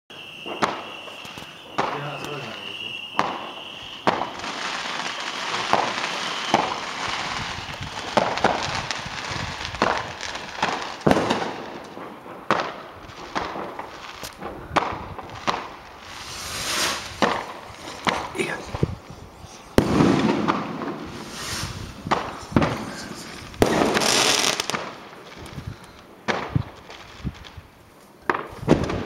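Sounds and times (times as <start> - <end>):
firework bangs: 0.1 - 29.0
firework crackling: 0.1 - 29.0
firework hissing: 0.1 - 29.0.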